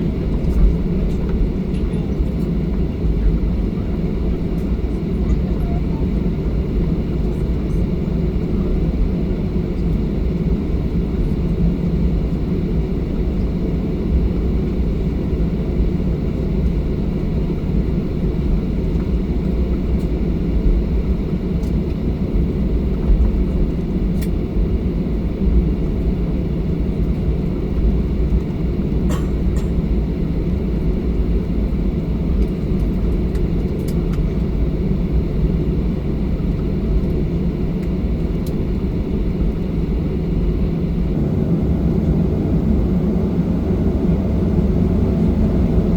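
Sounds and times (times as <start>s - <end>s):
jet engines low rumble in cabin: 0.0s - 45.9s.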